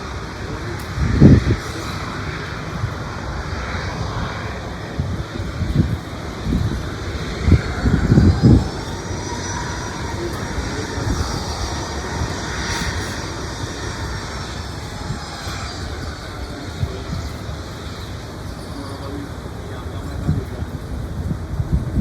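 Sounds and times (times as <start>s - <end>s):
faint high whine: 0.0s - 22.0s
jet engines rumbling: 0.0s - 22.0s.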